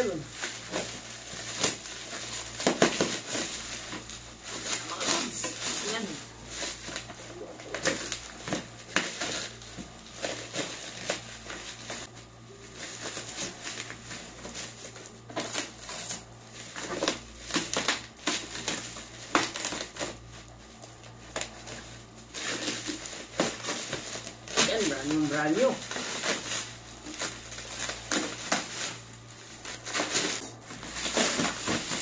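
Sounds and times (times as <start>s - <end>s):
plastic film crinkling: 0.0s - 32.0s.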